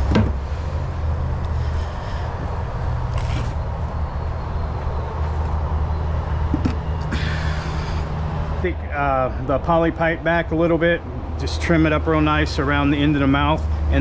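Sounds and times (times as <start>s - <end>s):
noisy background: 0.0s - 14.0s.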